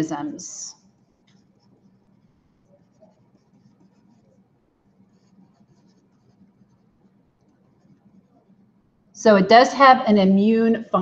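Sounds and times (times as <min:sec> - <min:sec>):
stylus scratching on tablet: 0:00.0 - 0:08.9
faint low hum: 0:00.0 - 0:11.0.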